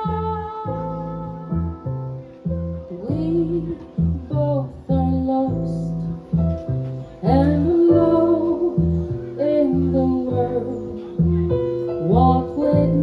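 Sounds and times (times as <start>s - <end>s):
woman singing: 0.0s - 2.1s, 2.9s - 6.4s, 7.2s - 11.4s, 12.0s - 13.0s
plucked double bass: 0.0s - 13.0s.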